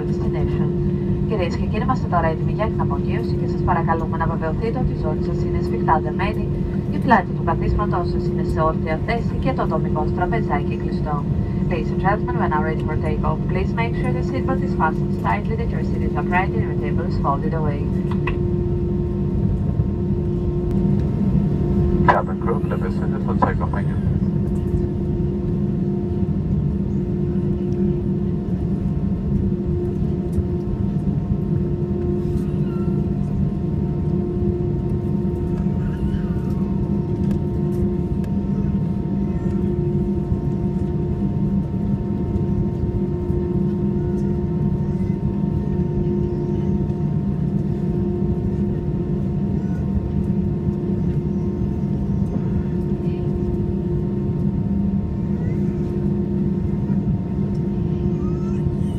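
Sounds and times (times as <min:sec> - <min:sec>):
airplane cabin hum: 0:00.0 - 0:58.9.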